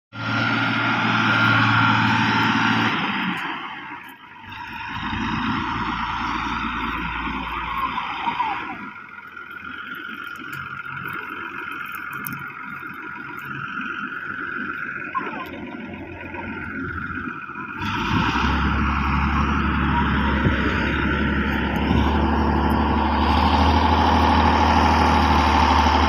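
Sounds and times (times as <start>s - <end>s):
deep rumble: 0.1s - 26.0s
vehicle engine running: 0.1s - 26.0s.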